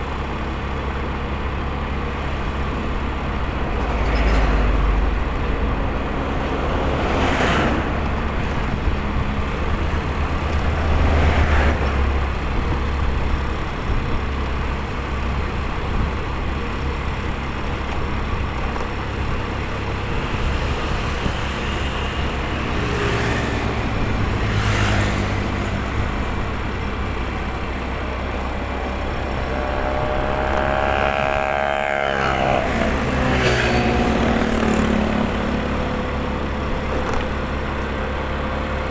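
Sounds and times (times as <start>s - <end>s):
motorcycle engine rumble: 0.0s - 38.9s
vehicles passing: 0.0s - 38.9s.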